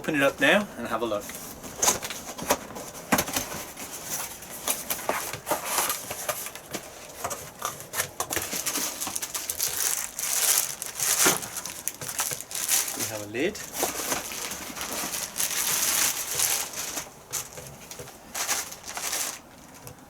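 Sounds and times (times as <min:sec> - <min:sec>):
packaging crinkling and rustling: 0:00.1 - 0:20.0.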